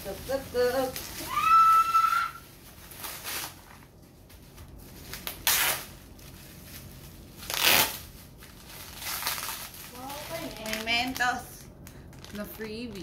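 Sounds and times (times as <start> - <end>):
bubble wrap rustling and crinkling: 0.0 - 13.0.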